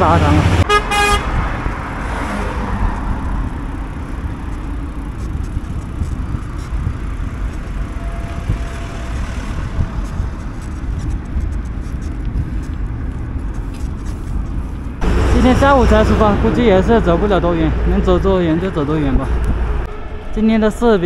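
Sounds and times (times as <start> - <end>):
cars passing on street: 0.0 - 21.0
deep traffic rumble: 0.0 - 21.0.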